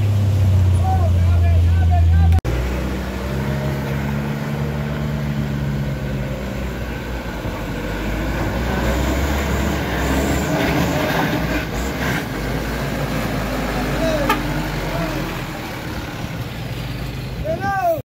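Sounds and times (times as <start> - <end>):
diesel truck engine passing: 0.0 - 17.6.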